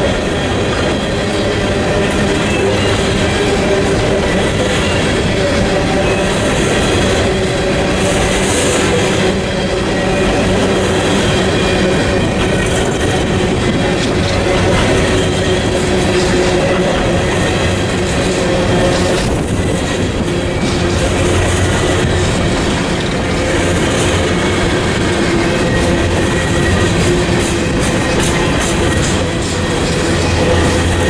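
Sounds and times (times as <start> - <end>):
ringing tone from train wheels: 0.0 - 31.0
train cars rolling rumble: 0.0 - 31.0.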